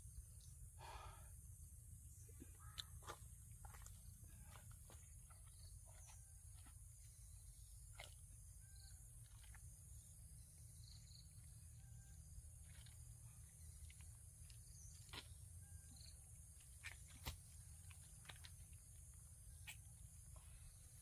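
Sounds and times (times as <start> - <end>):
faint chirps: 0.0 - 21.0.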